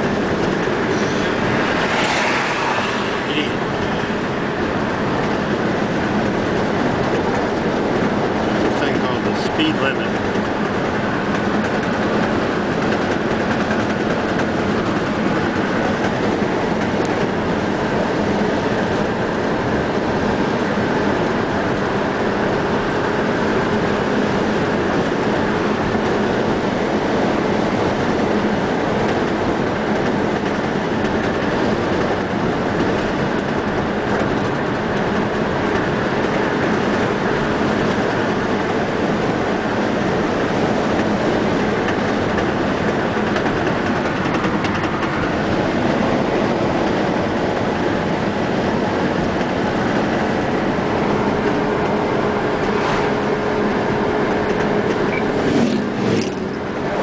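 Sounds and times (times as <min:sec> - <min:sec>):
car cabin road noise: 0:00.0 - 0:57.0.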